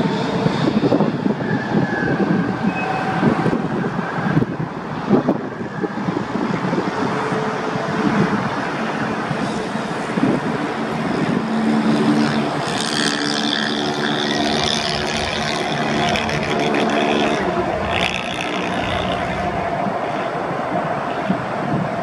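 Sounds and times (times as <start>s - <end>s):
high engine whine: 0.0s - 22.0s.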